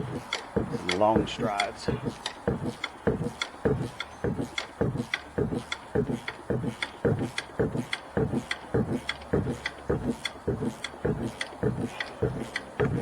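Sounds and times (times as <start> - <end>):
ratchet wrench pawl clicking: 0.0 - 13.0.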